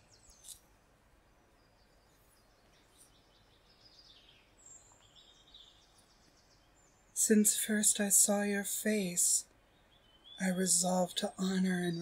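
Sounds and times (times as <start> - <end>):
faint forest birds chirping: 0.0 - 12.0.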